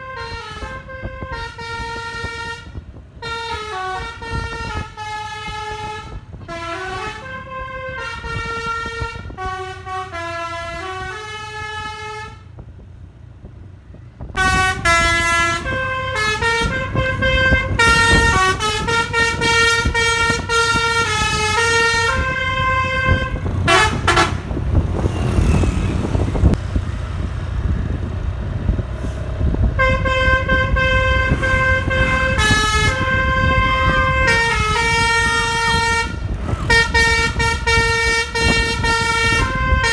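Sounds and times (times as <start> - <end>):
multi-tone air horn melody: 0.0 - 12.5, 14.4 - 24.9, 29.7 - 39.9
bus engine running: 0.0 - 39.9.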